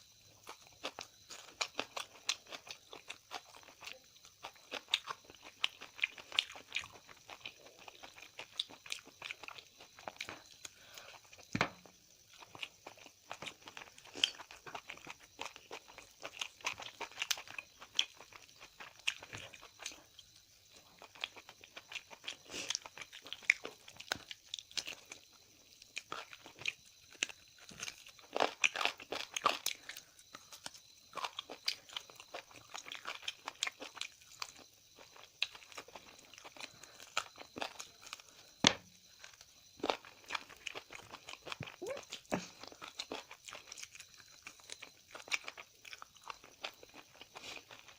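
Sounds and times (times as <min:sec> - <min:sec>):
person chewing and crunching food: 0:00.0 - 0:47.9.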